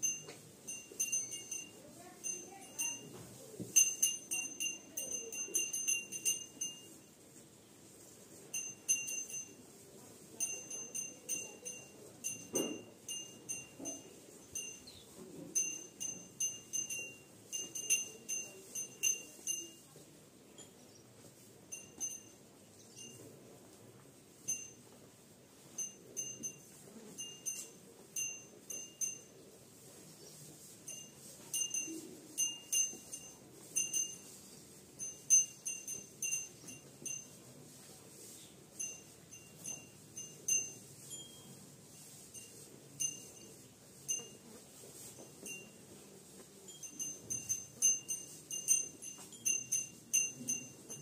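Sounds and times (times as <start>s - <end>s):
metal cattle bell jingling: 0.0s - 7.2s, 8.4s - 19.9s, 20.5s - 23.5s, 24.4s - 51.0s.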